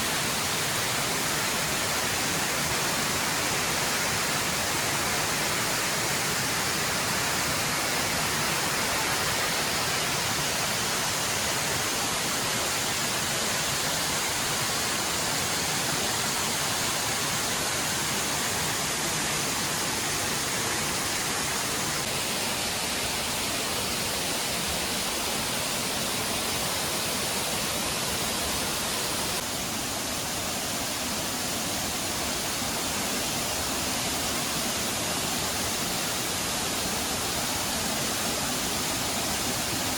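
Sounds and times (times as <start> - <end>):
waterfall pouring over rocks: 0.0 - 39.9.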